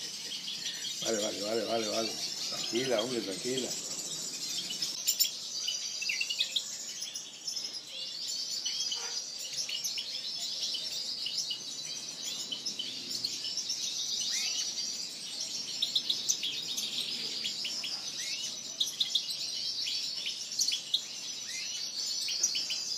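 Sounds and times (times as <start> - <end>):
finches chirping and twittering: 0.0 - 22.9.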